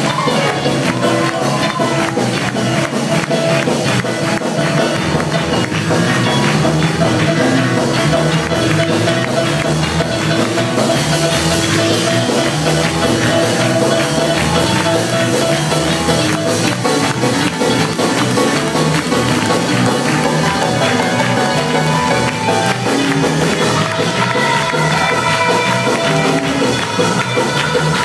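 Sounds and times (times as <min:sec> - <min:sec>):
live band playing upbeat music: 0:00.0 - 0:28.0.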